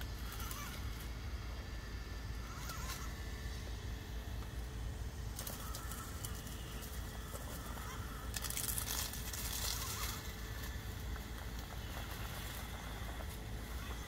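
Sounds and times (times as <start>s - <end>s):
drivetrain whir: 0.0s - 14.0s.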